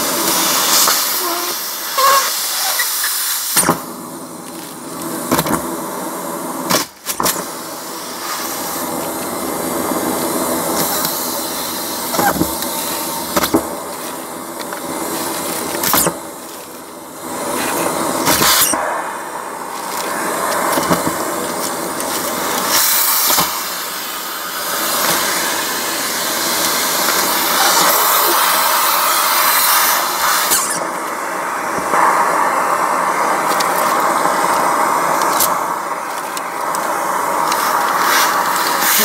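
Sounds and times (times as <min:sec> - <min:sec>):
vacuum cleaner whining: 0:00.0 - 0:39.0
vacuum nozzle sucking debris: 0:06.6 - 0:39.0.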